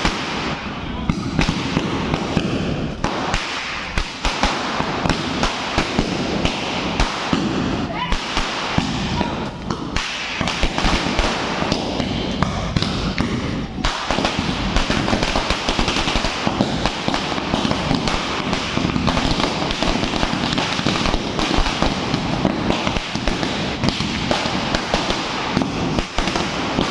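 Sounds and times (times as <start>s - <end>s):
firecracker string going off: 0.0s - 26.9s.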